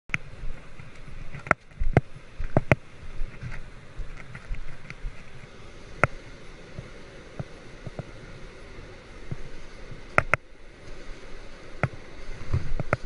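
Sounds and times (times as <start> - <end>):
wind: 0.0 - 13.0
surf: 0.1 - 13.0.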